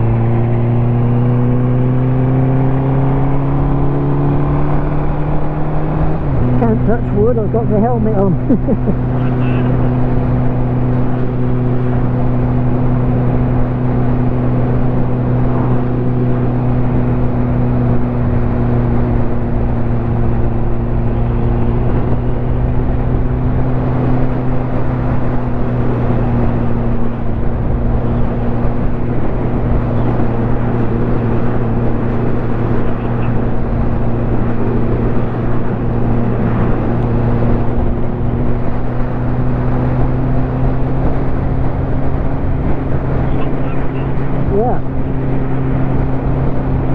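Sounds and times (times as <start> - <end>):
constant rush of noise: 0.0 - 46.9
motorcycle engine cruising: 0.0 - 46.9.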